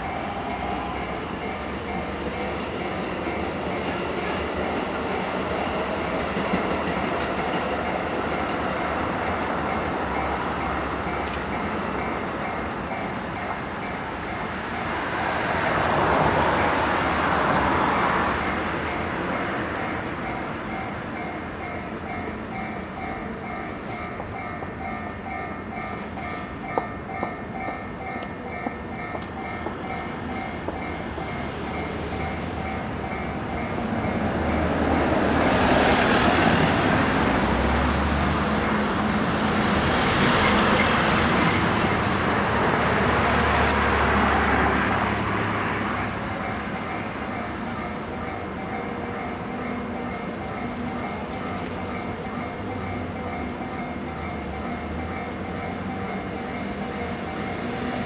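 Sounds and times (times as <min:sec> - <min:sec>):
level crossing warning bells: 0:00.0 - 0:39.2, 0:40.2 - 0:58.0
train running noise: 0:00.0 - 0:58.0.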